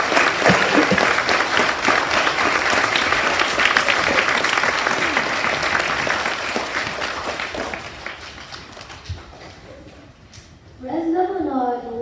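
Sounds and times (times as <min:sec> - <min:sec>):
children applauding: 0:00.0 - 0:09.9.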